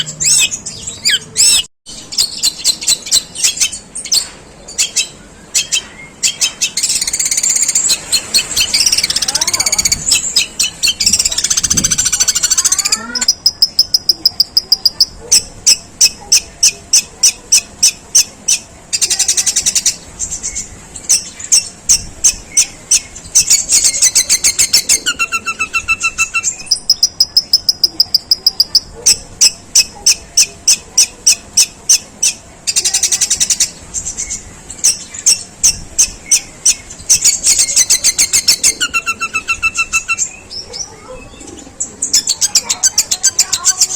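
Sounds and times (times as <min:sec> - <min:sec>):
bird chirping harshly: 0:00.0 - 0:43.9
bird trills: 0:00.0 - 0:43.9.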